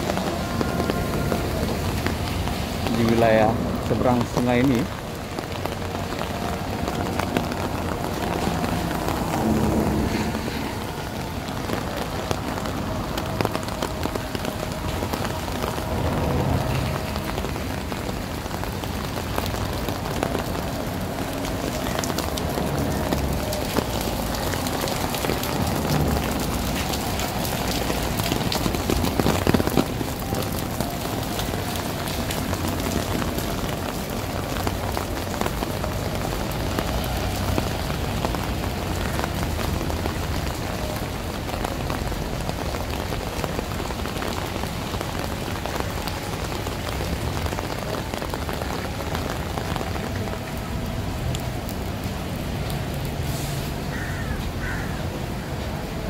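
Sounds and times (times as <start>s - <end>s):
rain falling on pavement: 0.0s - 56.0s.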